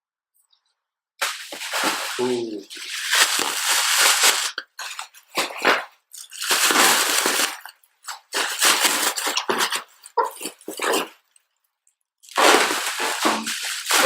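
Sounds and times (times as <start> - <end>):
packaging tearing and crinkling: 1.2 - 11.2, 12.3 - 14.0.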